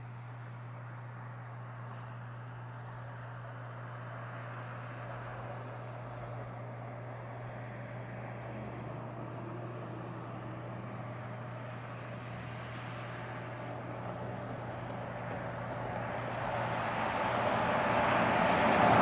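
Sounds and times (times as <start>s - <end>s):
constant low drone: 0.0s - 19.0s
highway traffic noise: 0.1s - 19.0s.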